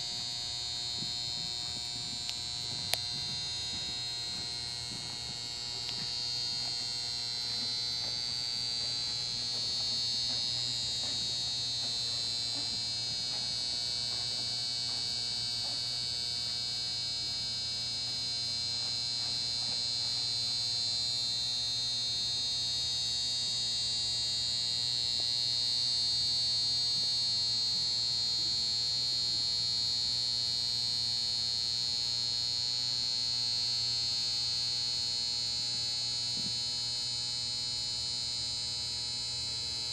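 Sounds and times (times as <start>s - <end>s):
electrical buzz with whine and hum: 0.0s - 39.9s.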